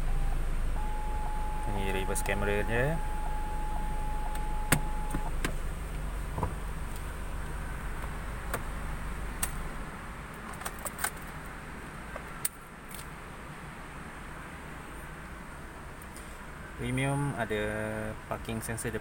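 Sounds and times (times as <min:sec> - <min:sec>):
low hum inside car cabin: 0:00.0 - 0:19.0.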